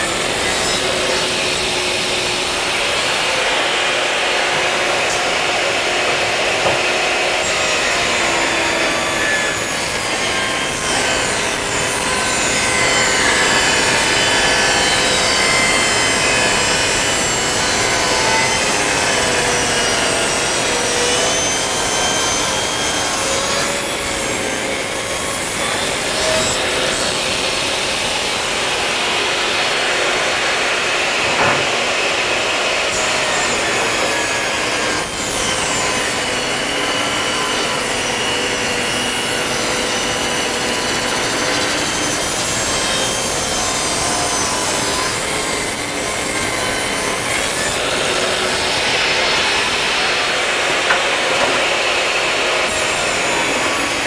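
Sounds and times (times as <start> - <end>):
saw ripping wood: 0.0 - 54.0
table saw blade whine: 0.0 - 54.0.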